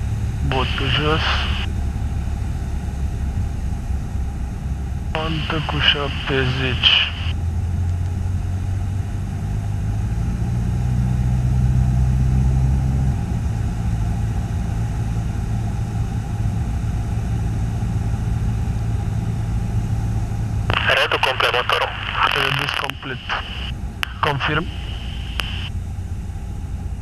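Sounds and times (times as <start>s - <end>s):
muffled aircraft engine and propeller: 0.0s - 27.0s.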